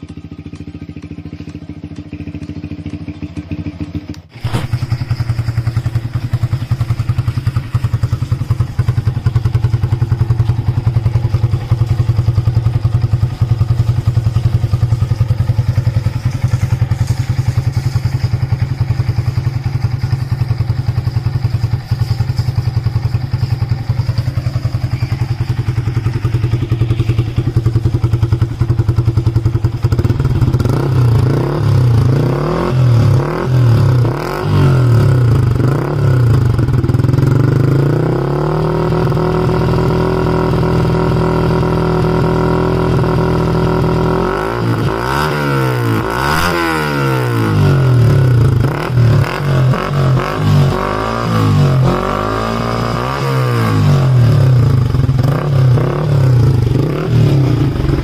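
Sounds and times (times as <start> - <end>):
motorcycle engine idling: 0.0 - 52.2, 53.6 - 58.0
motorcycle engine revving: 0.0 - 58.0.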